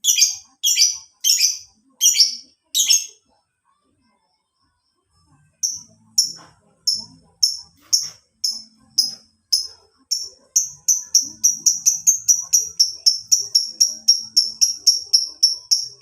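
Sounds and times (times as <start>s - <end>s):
bird chirping: 0.0s - 3.2s, 5.6s - 16.0s.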